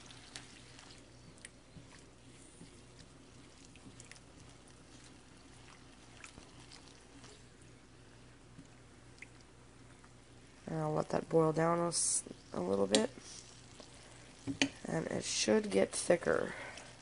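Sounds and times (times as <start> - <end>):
sauce crackling and popping: 0.0 - 10.6, 11.4 - 17.0.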